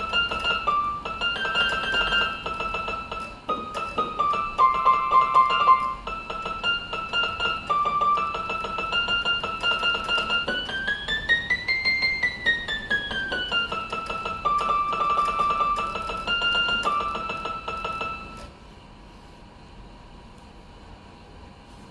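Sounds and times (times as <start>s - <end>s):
electronic keyboard melody: 0.0s - 18.5s.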